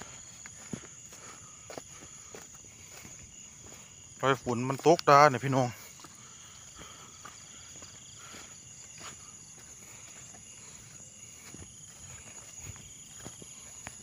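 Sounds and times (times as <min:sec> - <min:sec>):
crickets buzzing: 0:00.0 - 0:14.0
footsteps through grass: 0:00.0 - 0:14.0
pulsing insect trill: 0:00.0 - 0:14.0.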